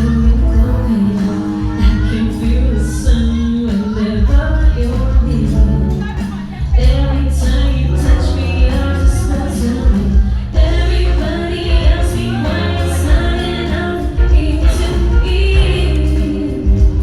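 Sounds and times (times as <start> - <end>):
heavy pulsing bass: 0.0 - 17.0
live band music: 0.0 - 17.0
person singing: 0.0 - 17.0
steady drum beat: 0.0 - 17.0.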